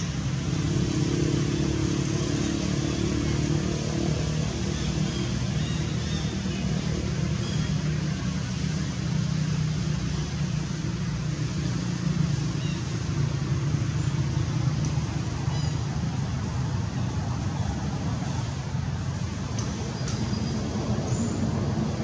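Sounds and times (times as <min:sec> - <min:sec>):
low engine-like rumble: 0:00.0 - 0:22.0.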